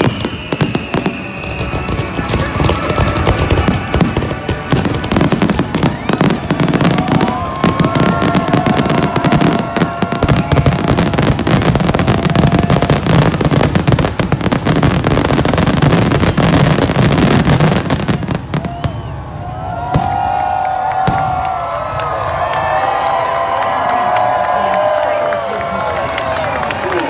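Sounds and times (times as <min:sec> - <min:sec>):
fireworks booming and crackling: 0:00.0 - 0:27.0
fireworks whistling: 0:00.0 - 0:27.0.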